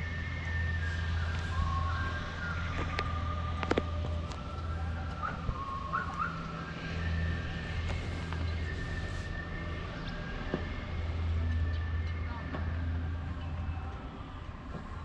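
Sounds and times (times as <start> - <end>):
slow melody of high held notes: 0.0 - 14.6.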